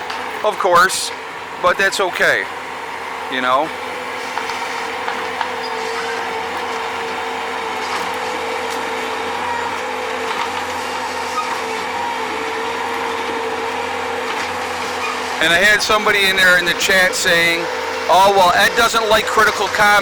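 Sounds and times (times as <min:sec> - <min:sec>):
skid-steer loader engine drone: 0:00.0 - 0:20.0.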